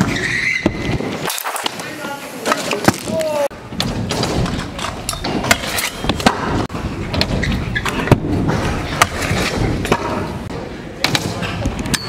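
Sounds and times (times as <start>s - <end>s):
scooter wheels rolling on ramps: 0.0s - 12.0s.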